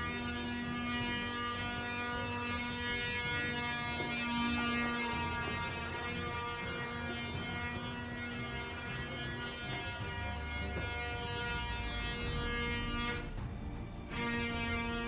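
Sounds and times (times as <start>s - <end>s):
droning hum: 0.0s - 15.0s.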